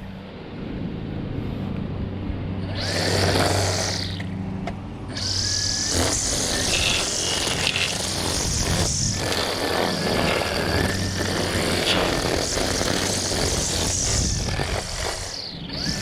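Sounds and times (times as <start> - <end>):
hissing cutting noise: 2.6 - 16.0
small gasoline engine running: 2.6 - 16.0.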